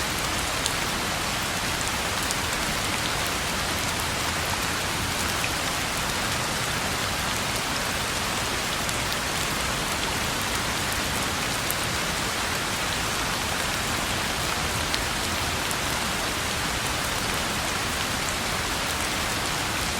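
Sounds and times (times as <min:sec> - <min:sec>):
rain falling on a road: 0:00.0 - 0:19.9.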